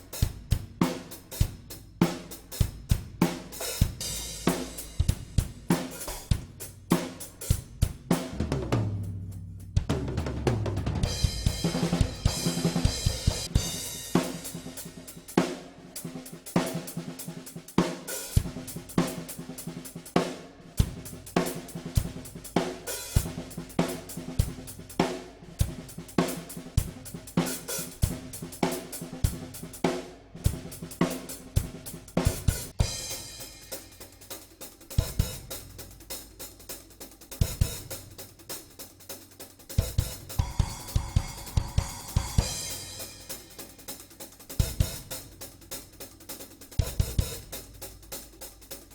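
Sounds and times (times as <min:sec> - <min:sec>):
drum kit groove: 0:00.0 - 0:48.9.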